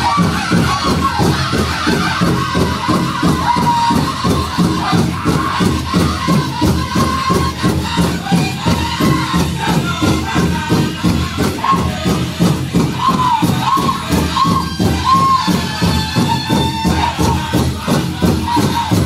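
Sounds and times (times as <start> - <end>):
percussion beat: 0.0 - 19.0
voices singing held notes: 0.0 - 19.0.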